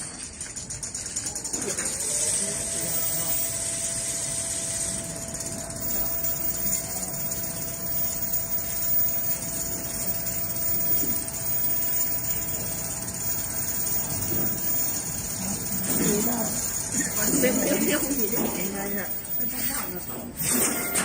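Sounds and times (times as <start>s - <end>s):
sewing machine humming: 0.0s - 21.0s.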